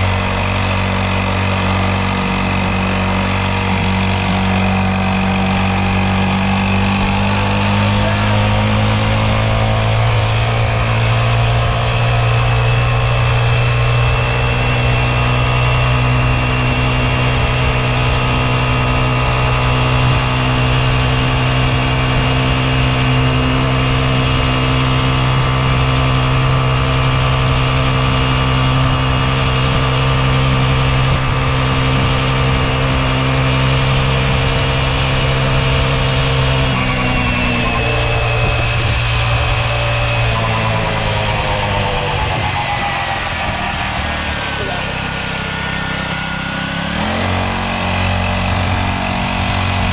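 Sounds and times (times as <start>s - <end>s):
dirt bike engine running: 0.0s - 49.9s.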